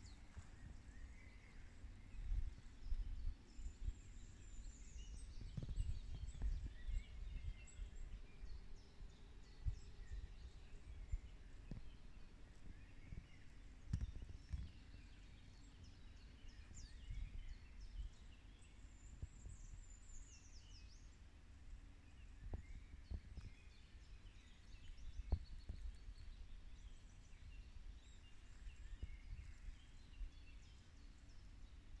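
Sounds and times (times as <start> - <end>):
small birds chirping and whistling: 0.0 - 32.0.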